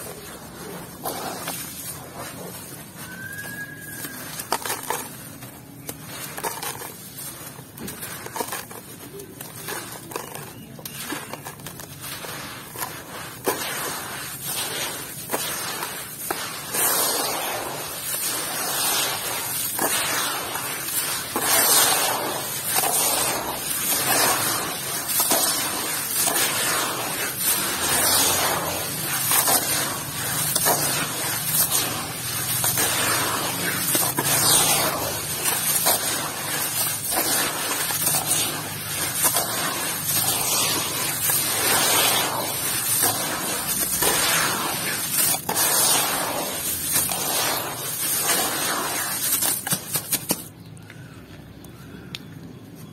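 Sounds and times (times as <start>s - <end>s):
gritty crunching in plastic bowl: 0.0s - 50.6s.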